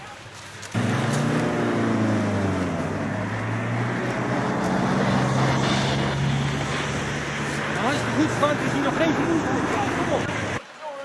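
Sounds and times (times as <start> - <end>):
wheel loader diesel engine running: 0.8 - 10.6.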